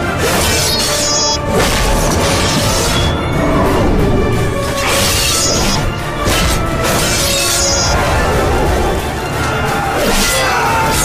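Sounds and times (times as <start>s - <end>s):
dramatic soundtrack music: 0.0s - 11.0s.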